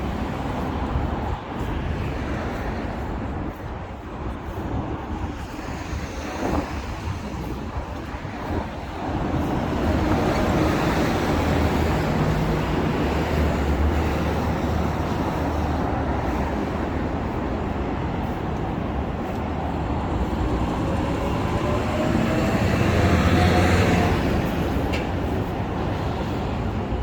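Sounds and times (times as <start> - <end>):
passing motor vehicles: 0.0 - 27.0.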